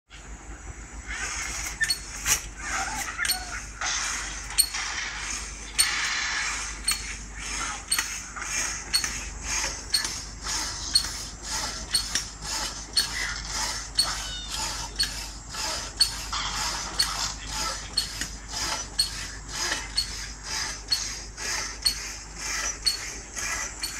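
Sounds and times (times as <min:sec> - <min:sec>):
hacksaw blade rasping on wood: 0:01.3 - 0:23.9.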